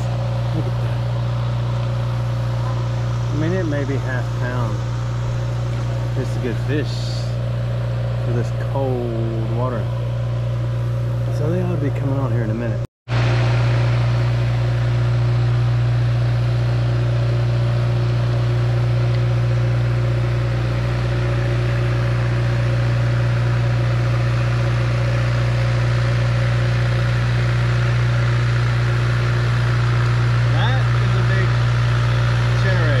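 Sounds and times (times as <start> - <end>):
low mechanical drone: 0.0 - 33.0.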